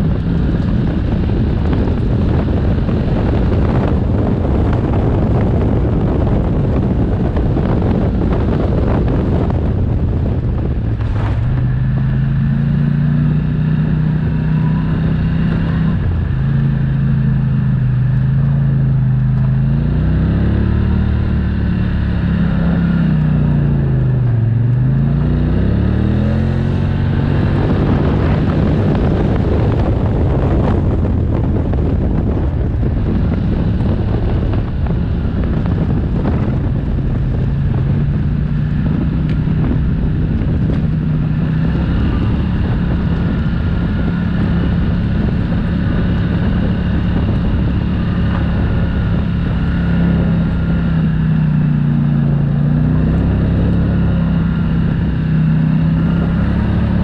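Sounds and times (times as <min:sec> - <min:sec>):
quad engine running: 0:00.0 - 0:57.0
wind noise on microphone: 0:00.0 - 0:57.0.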